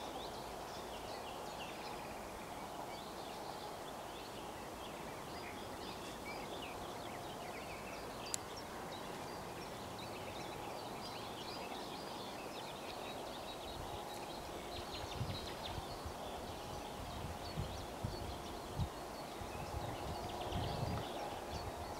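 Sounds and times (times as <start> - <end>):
outdoor background hiss: 0.0 - 21.9.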